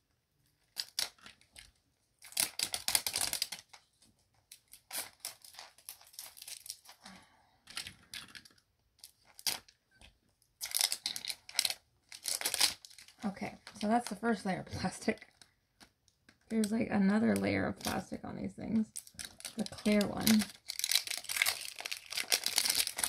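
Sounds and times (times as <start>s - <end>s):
plastic wrap crinkling and tearing: 0.4s - 23.0s.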